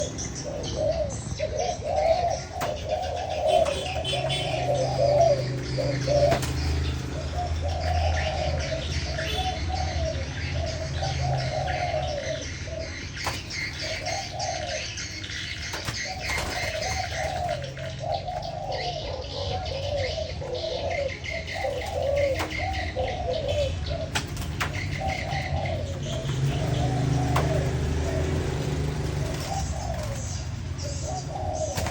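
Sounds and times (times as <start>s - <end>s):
doves cooing: 0.0s - 31.9s
small birds chirping: 0.0s - 31.9s.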